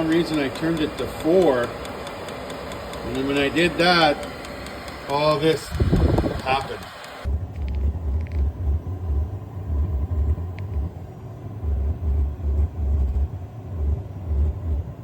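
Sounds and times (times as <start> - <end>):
diesel heater growling: 0.0 - 15.0.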